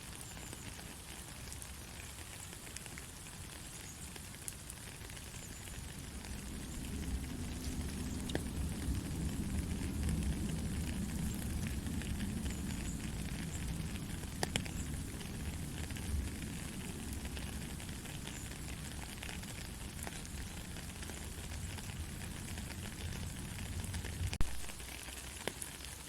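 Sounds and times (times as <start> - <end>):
sharp ticks of raindrops: 0.0 - 26.0
soft rain falling: 0.0 - 26.0.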